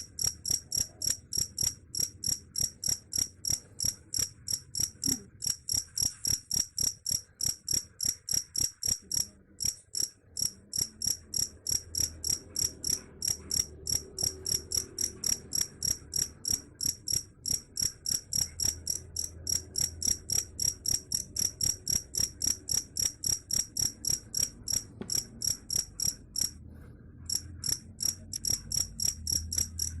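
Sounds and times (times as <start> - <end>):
cricket chirping: 0.0 - 26.5, 27.3 - 30.0.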